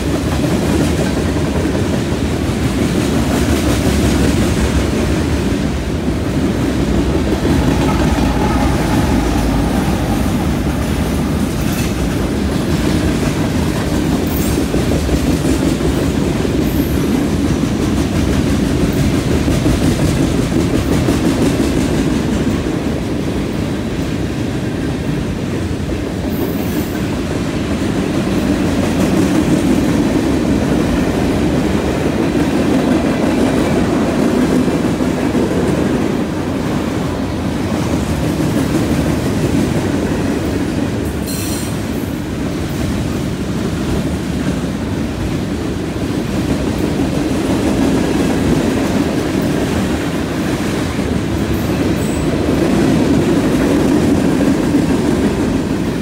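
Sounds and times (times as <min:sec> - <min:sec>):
clickety-clack over rail joints: 0:00.0 - 0:56.0
train wheels rumbling on rails: 0:00.0 - 0:56.0.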